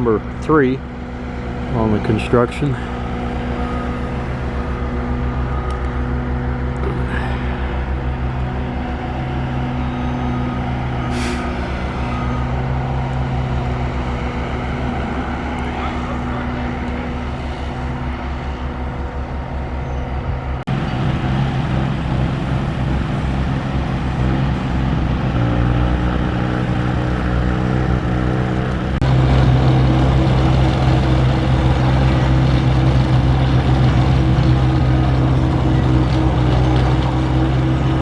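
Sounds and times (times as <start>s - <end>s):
diesel construction machinery running: 0.0s - 38.0s.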